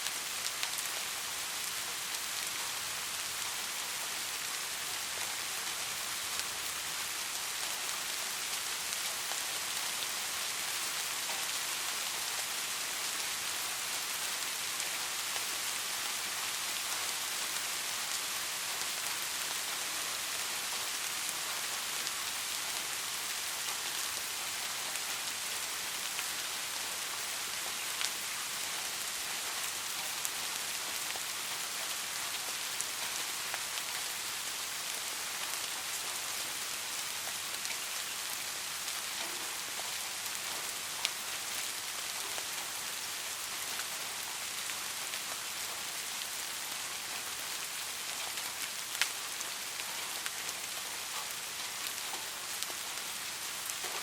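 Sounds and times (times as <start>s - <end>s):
light rain patter: 0.0s - 54.0s.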